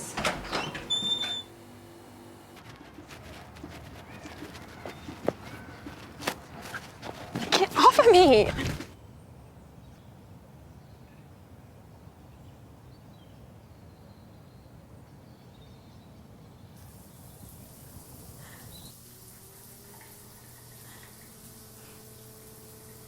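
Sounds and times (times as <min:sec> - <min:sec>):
faint outdoor ambience hiss: 0:00.0 - 0:23.0.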